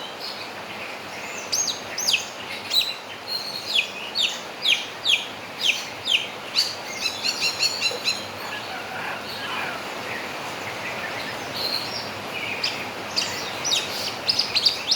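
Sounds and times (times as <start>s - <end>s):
bird chirping and twittering: 1.2s - 14.9s.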